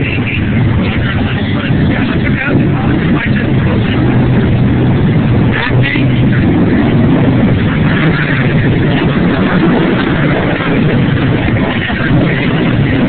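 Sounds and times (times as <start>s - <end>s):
motorcycles riding by: 0.0s - 13.0s.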